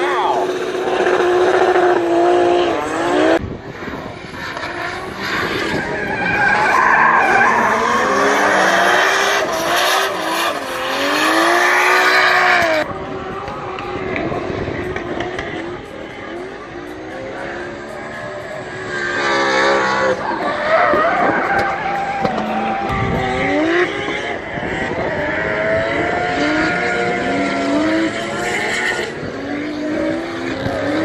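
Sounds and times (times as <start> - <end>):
car engines revving hard: 0.0 - 31.0.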